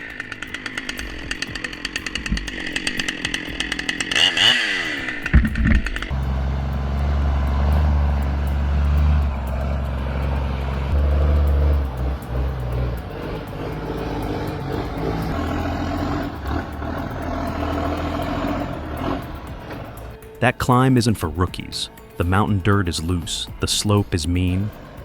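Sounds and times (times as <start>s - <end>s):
truck engine pulling uphill: 0.0s - 25.0s.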